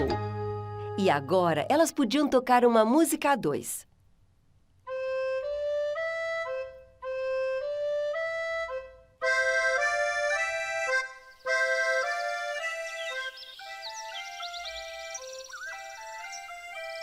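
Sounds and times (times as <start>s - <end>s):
accordion: 0.0s - 2.0s, 4.8s - 17.0s.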